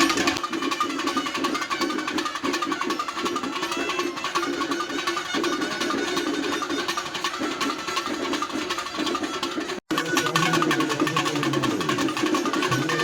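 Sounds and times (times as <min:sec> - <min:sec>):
percussion ensemble drumming: 0:00.0 - 0:13.0.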